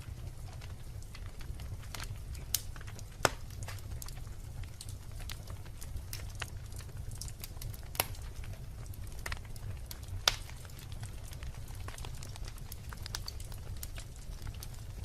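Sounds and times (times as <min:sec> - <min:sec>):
logs crackling and popping: 0:00.0 - 0:15.0
wood fire rumbling: 0:00.0 - 0:15.0.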